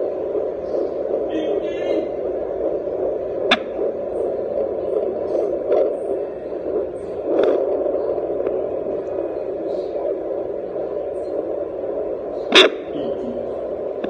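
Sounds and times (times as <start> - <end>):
fetal doppler whooshing static: 0.0 - 14.0.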